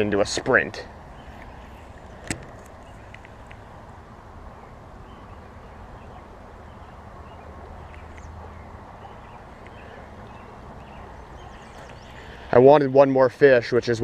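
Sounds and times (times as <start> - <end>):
low steady outdoor hiss: 0.0 - 14.0.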